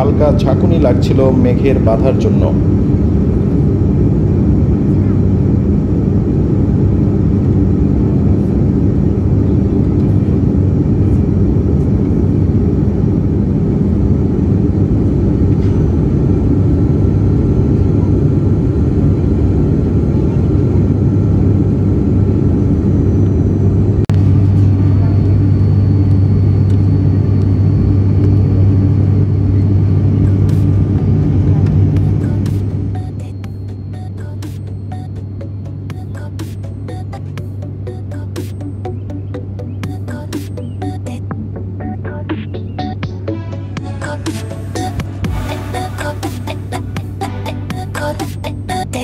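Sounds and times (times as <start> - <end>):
airliner cabin engine drone: 0.0 - 49.0
low hum: 0.0 - 49.0.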